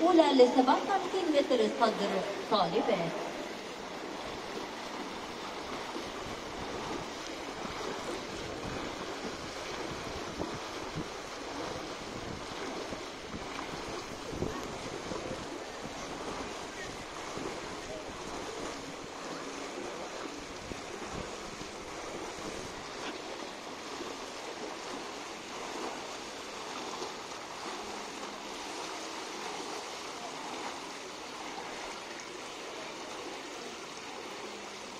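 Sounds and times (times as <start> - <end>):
swimmers splashing in a pool: 0.0 - 34.9.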